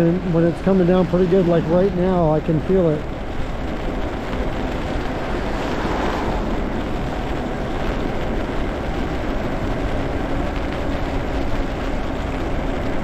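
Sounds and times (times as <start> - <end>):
bike tyres hissing on wet road: 0.0 - 13.0
wind rush over microphone: 0.0 - 13.0.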